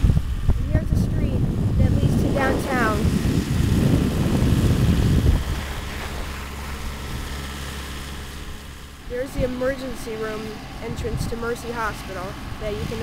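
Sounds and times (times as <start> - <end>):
steady low hum: 0.0 - 13.0
wind buffeting microphone: 0.0 - 13.0.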